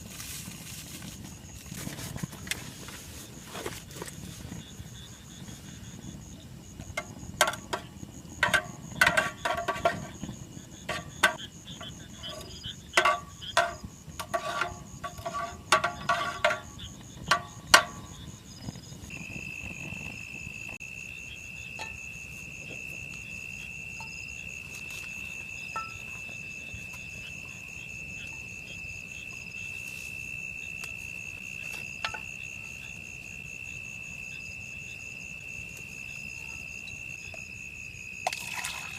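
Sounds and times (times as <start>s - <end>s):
faint insect chirping: 0.0s - 38.9s
insect high-pitched trill: 7.0s - 38.9s.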